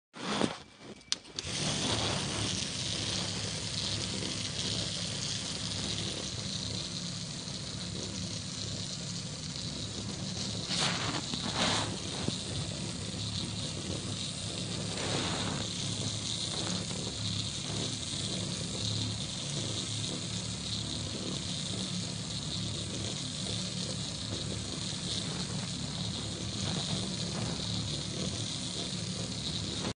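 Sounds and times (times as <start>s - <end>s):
small toy motor running: 0.8s - 29.9s
pen legs rattling on paper: 1.4s - 29.8s.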